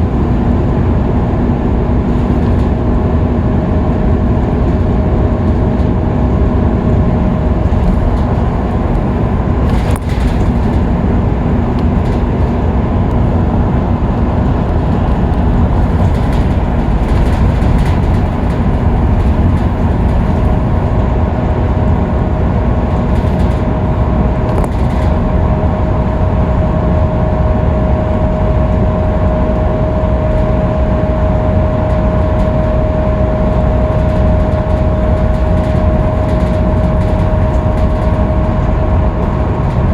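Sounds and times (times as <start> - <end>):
bus drivetrain and road rumble: 0.0 - 39.9
steady whine: 0.0 - 39.9.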